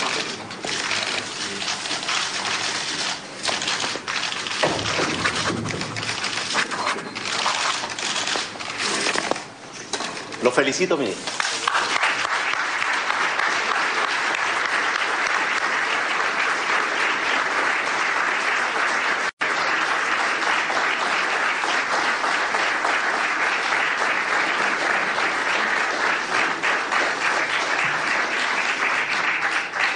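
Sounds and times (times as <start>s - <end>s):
crowd applauding: 0.0s - 9.3s, 11.3s - 29.9s.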